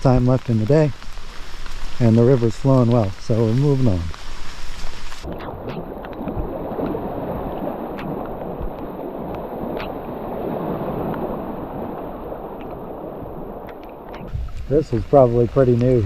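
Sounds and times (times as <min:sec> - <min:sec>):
light water drips: 0:00.0 - 0:16.0
river water gurgling and lapping: 0:00.0 - 0:16.0.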